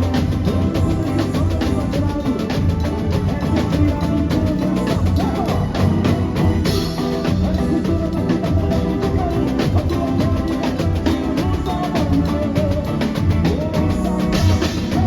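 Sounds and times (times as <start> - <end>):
samba drumming: 0.0 - 15.0
samba melody: 0.0 - 15.0.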